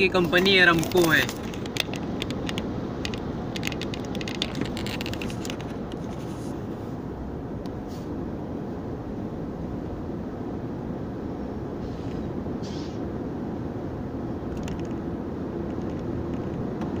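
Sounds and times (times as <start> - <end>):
road and tyre noise in car: 0.0 - 17.0.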